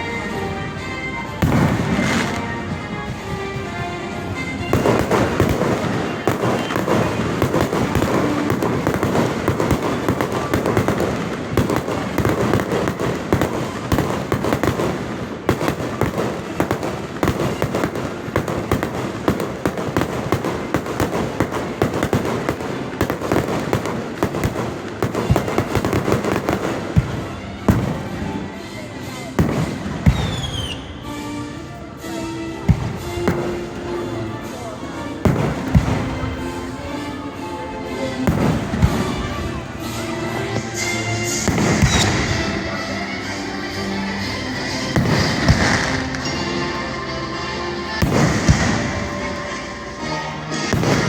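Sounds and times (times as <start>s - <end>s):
fireworks crackling and popping: 1.1s - 51.0s.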